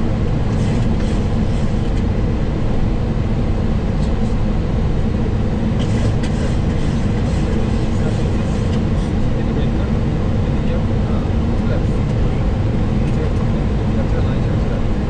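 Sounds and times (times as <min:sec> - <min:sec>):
rumble of engines and airflow: 0:00.0 - 0:15.0.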